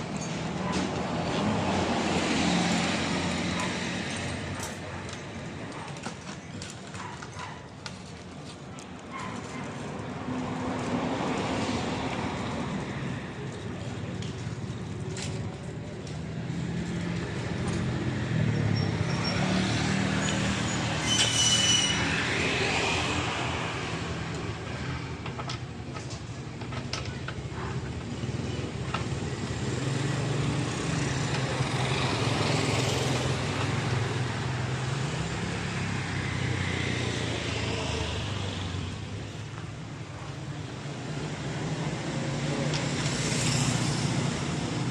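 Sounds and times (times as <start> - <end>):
passing road traffic: 0.0 - 44.9.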